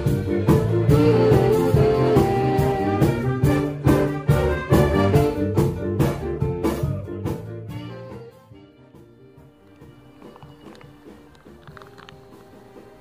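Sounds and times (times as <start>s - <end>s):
big band swing music: 0.0s - 13.0s.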